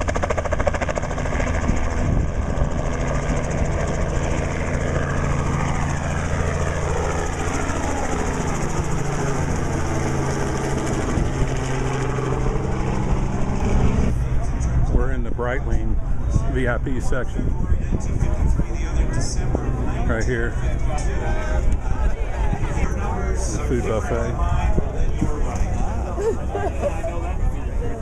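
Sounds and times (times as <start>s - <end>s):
helicopter rotor and engine hum: 0.0s - 28.0s.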